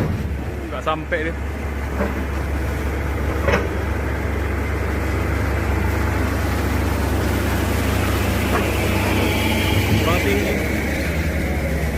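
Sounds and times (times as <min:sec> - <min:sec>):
diesel engine droning: 0:00.0 - 0:11.9.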